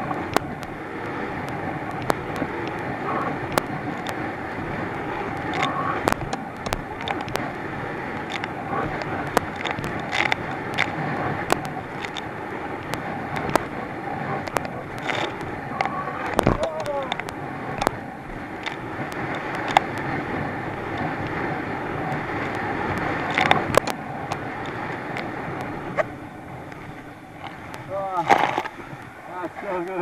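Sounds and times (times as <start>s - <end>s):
boat engine and water roar: 0.0s - 30.0s
hull slamming waves: 0.0s - 30.0s.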